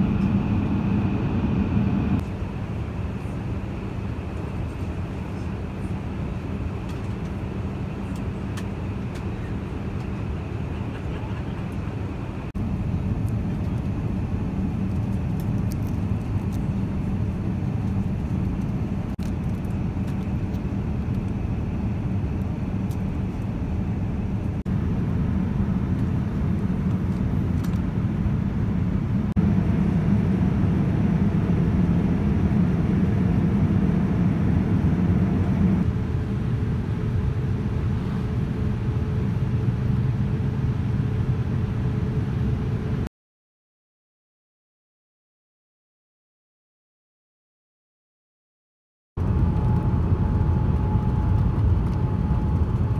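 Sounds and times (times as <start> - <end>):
airliner cabin drone: 0.0 - 43.1, 49.2 - 52.9.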